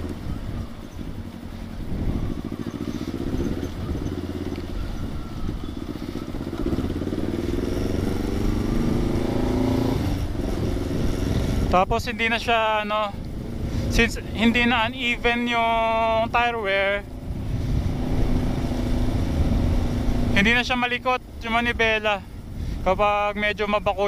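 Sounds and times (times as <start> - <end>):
motorcycle engine accelerating: 0.0 - 21.4.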